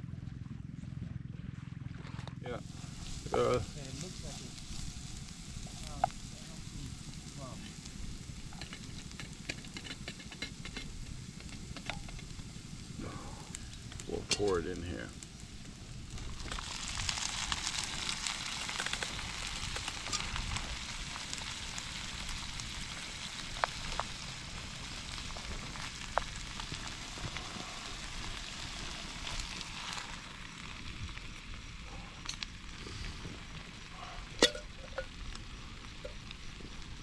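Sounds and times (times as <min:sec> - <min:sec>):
oil crackles: 0:02.4 - 0:37.0
food sizzling in hot oil: 0:02.6 - 0:37.0.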